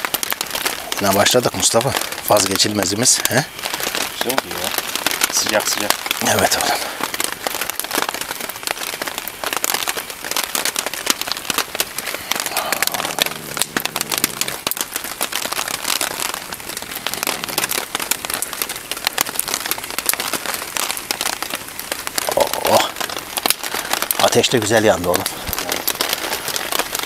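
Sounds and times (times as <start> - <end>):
campfire crackling: 0.0 - 27.0
heavy rain on plastic tarp: 0.0 - 27.0.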